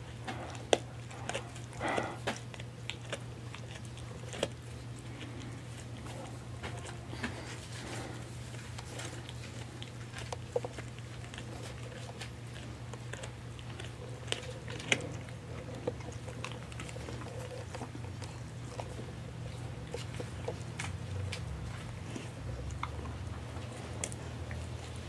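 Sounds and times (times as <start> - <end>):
dog crunching a hard treat: 0.0 - 25.0.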